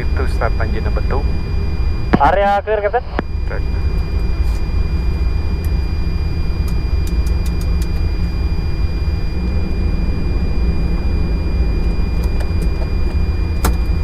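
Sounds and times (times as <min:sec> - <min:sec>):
faint high whine: 0:00.0 - 0:14.0
low engine rumble: 0:00.0 - 0:14.0.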